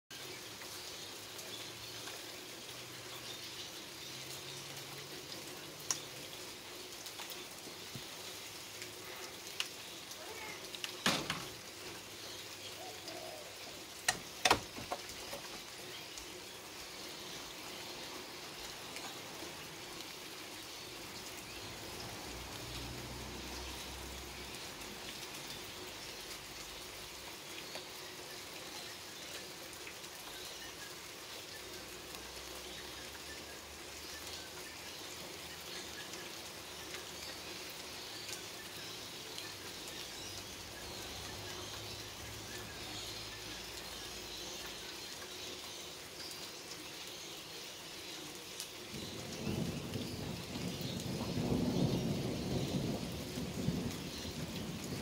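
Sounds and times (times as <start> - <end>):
rain on leaves and grass: 0.1 - 55.0.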